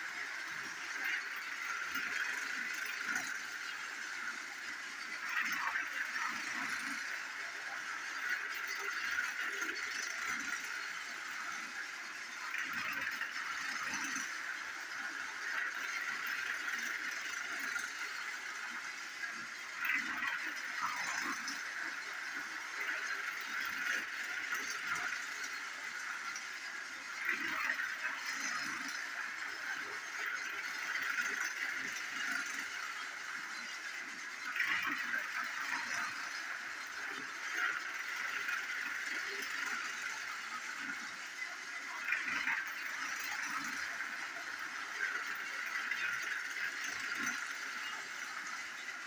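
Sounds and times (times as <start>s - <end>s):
toy train motor whining: 0.0s - 49.0s
wheels rattling on plastic track: 0.0s - 49.0s.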